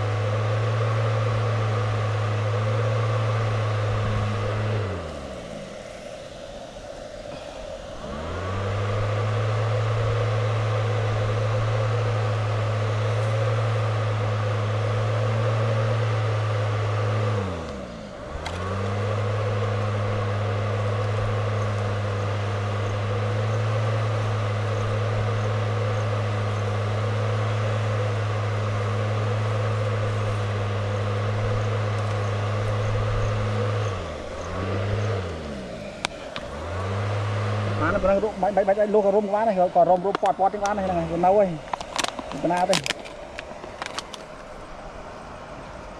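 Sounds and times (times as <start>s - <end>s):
electric fan motor humming: 0.0s - 45.9s.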